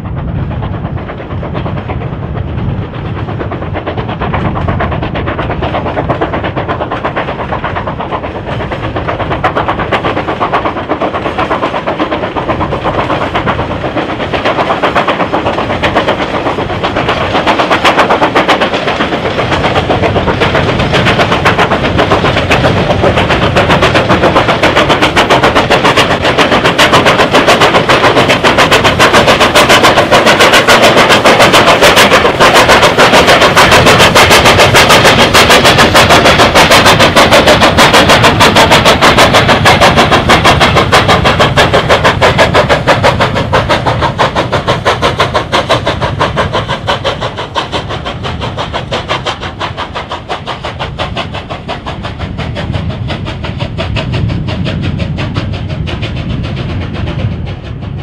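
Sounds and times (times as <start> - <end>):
steam locomotive exhaust beat: 0.0 - 58.0.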